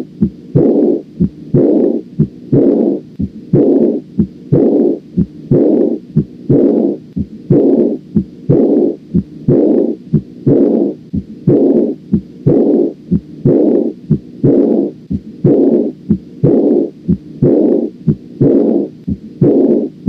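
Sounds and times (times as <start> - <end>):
heartbeat: 0.0 - 20.0
blowing heart murmur: 0.2 - 20.0.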